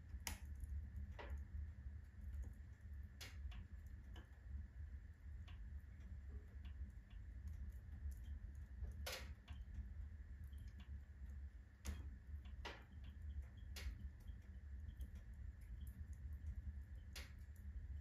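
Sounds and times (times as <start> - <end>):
firewood crackling and popping: 0.0 - 4.4, 5.4 - 18.0
low steady rumble of stove: 0.0 - 18.0.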